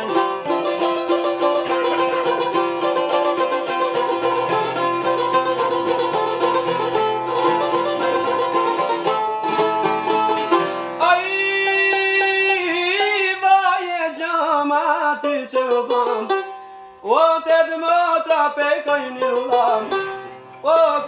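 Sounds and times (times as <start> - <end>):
plucked lutes playing fast: 0.0 - 13.9, 14.9 - 21.0.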